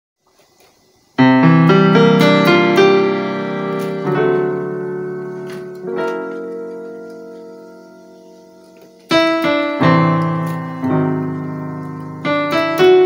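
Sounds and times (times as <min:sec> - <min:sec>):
piano chords ringing: 0:01.1 - 0:13.0.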